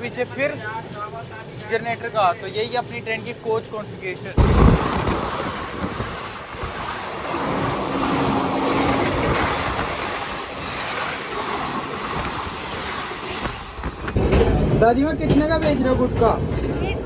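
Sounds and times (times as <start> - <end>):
train coaches rumbling and rattling: 0.0 - 17.0.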